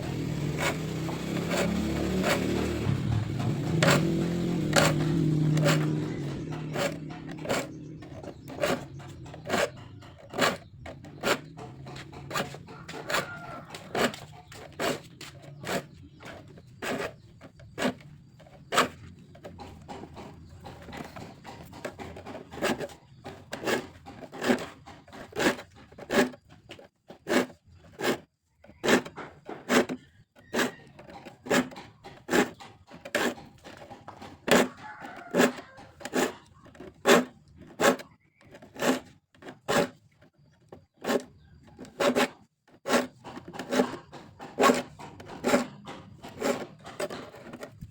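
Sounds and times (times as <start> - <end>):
file rasping on saw teeth: 0.0 - 47.9.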